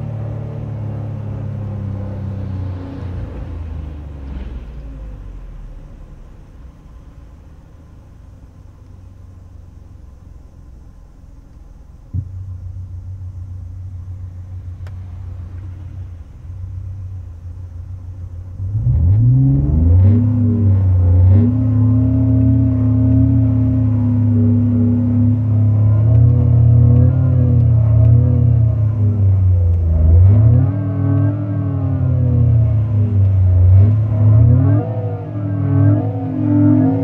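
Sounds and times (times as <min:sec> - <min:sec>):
synthesized engine sound through speakers: 0:00.0 - 0:37.0.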